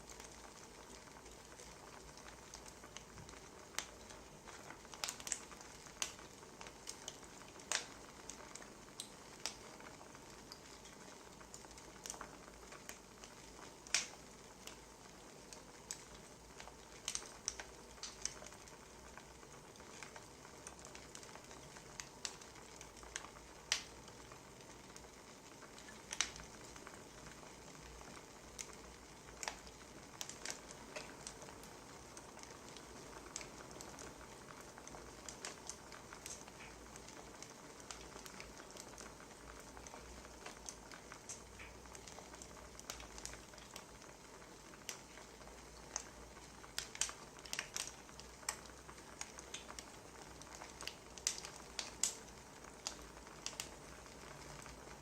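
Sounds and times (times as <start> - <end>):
soft steady hiss: 0.0 - 55.0
wood fire popping and snapping: 0.0 - 55.0.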